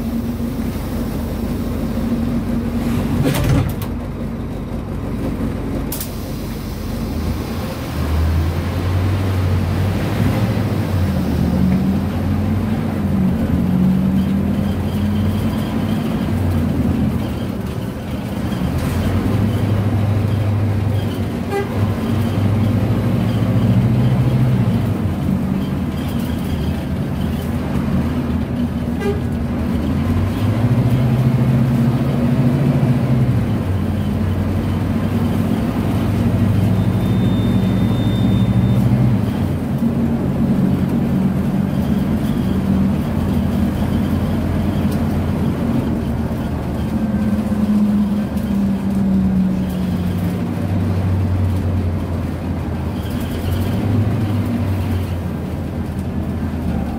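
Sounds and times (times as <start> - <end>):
bus diesel engine from inside: 0.0 - 56.9.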